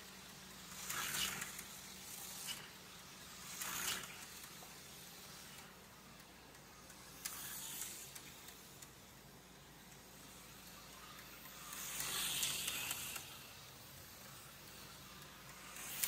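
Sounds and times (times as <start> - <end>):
slot car motor whirring: 0.0 - 16.0
steady low hum: 0.0 - 16.0.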